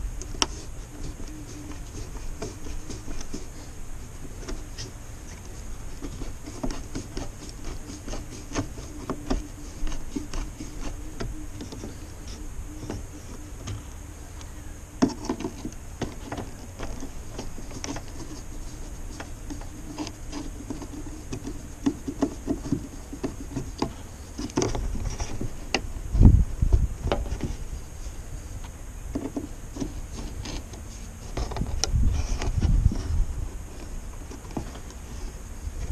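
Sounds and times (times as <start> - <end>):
faint steady hum: 0.0 - 35.9
hands tapping and rubbing window: 0.2 - 13.9, 15.0 - 27.8, 29.1 - 35.9.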